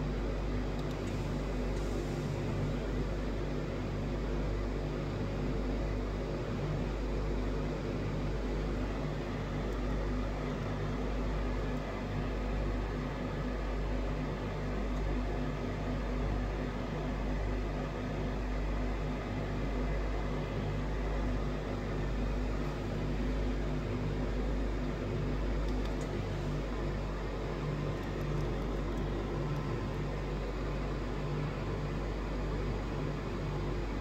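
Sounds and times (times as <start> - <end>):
low pulsing mechanical hum: 0.0 - 34.0.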